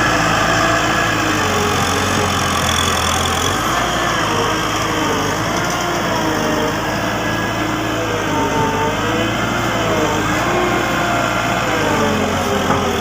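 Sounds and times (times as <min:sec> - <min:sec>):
road roller diesel engine droning: 0:00.0 - 0:13.0.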